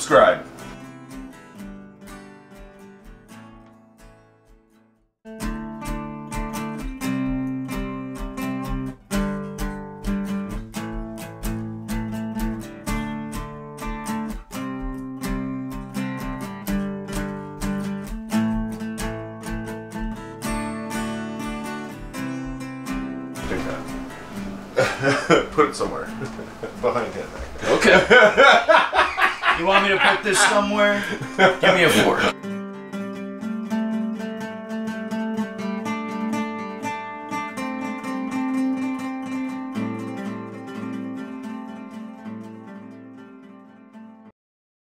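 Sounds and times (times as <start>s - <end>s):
strummed acoustic guitar: 0.0s - 44.3s.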